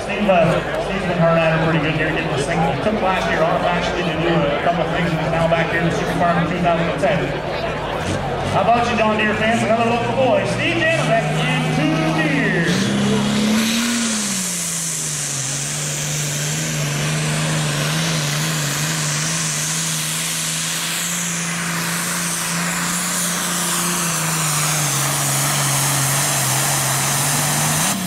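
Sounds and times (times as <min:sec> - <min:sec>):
tractor diesel engine flat out: 0:00.0 - 0:28.0.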